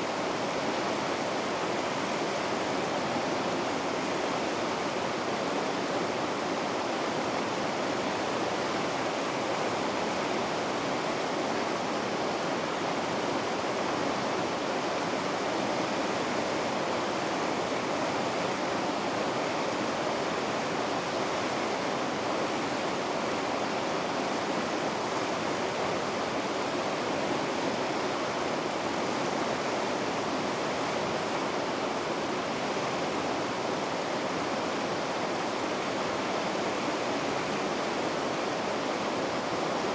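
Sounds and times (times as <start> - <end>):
water rushing over rapids: 0.0 - 39.9.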